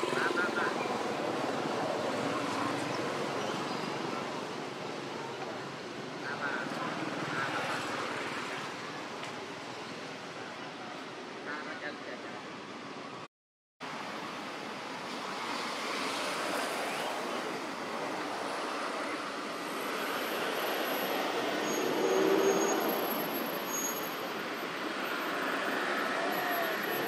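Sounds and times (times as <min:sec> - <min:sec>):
rushing outdoor noise: 0:00.0 - 0:27.0.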